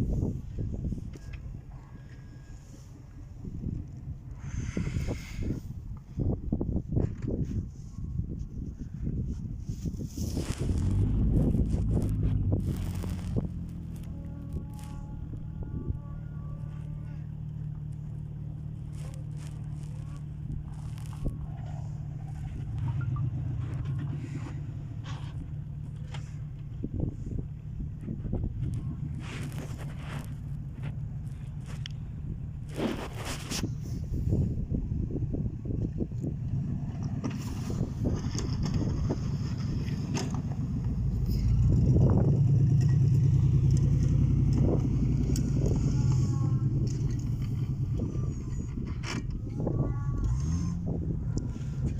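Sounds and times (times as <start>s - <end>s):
engine droning: 0.0s - 51.9s.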